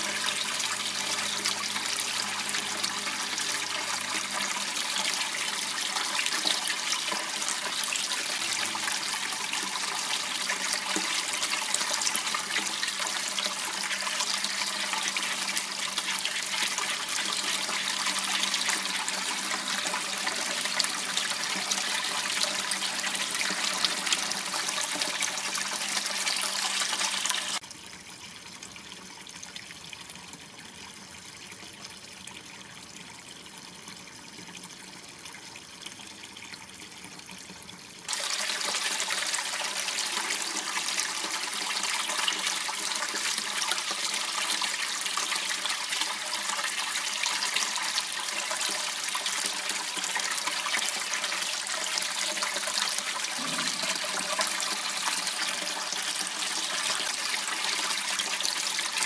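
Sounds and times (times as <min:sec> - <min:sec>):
water rushing in a channel: 0:00.0 - 0:27.7, 0:36.3 - 0:59.0.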